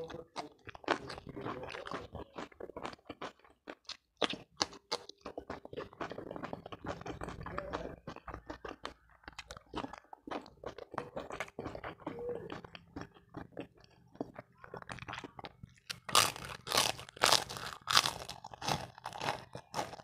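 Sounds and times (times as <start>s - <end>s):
person chewing food crunchily: 0.0s - 20.0s.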